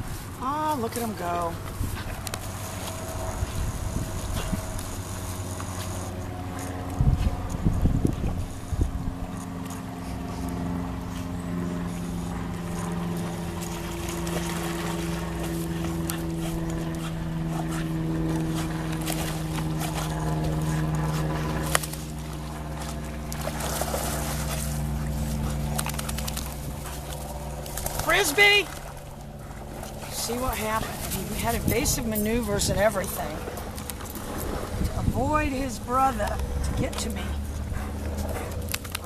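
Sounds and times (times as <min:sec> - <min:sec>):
engine drone: 0:00.0 - 0:39.0.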